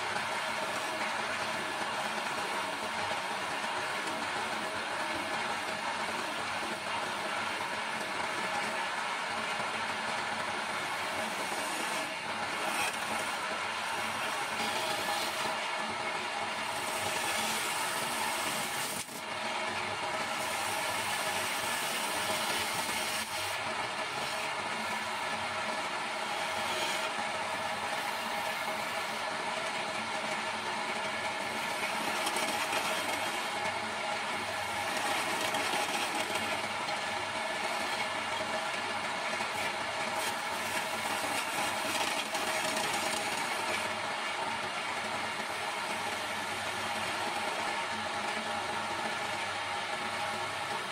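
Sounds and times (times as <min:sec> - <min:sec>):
chisel cutting spinning wood: 0:00.0 - 0:50.9
lathe motor running: 0:07.4 - 0:50.6.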